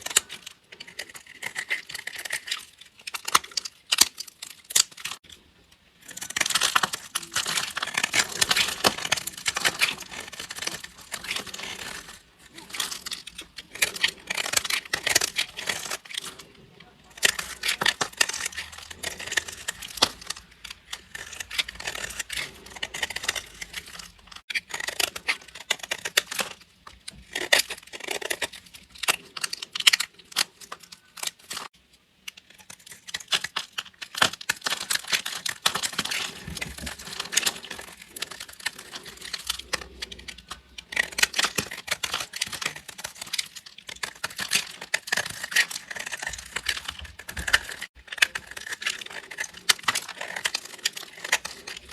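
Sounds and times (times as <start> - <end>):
blade cutting crunchy soap: 0.0 - 31.7, 32.4 - 51.9.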